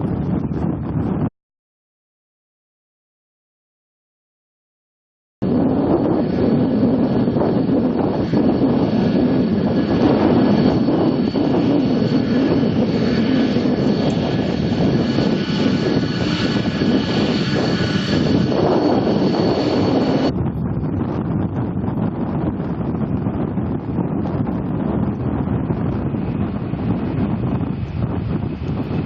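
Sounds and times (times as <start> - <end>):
high jet engine whine: 0.0 - 1.3, 5.4 - 29.0
jet engines roaring: 5.4 - 29.0.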